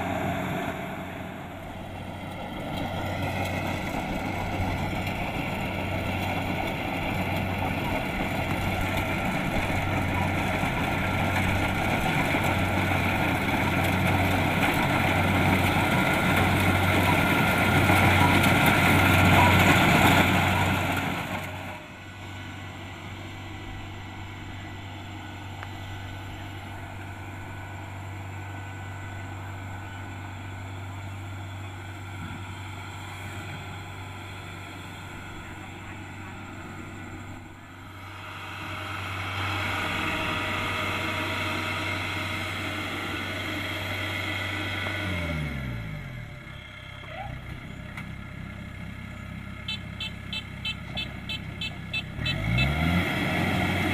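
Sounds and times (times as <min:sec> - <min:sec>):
combine harvester engine running: 0:00.0 - 0:53.9.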